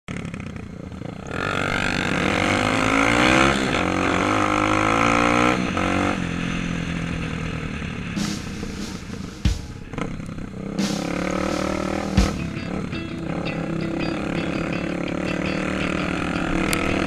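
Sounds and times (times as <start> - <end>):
dirt bike engine revving: 0.1 - 17.0.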